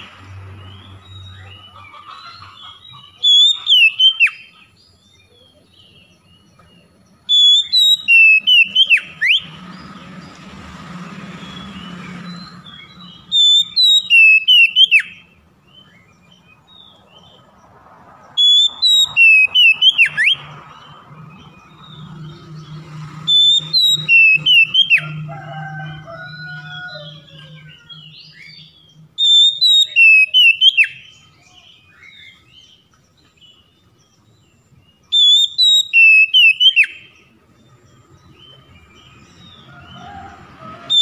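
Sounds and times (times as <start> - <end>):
bird singing whistled notes: 2.9 - 9.9, 11.4 - 17.0, 18.3 - 25.2, 26.4 - 40.0.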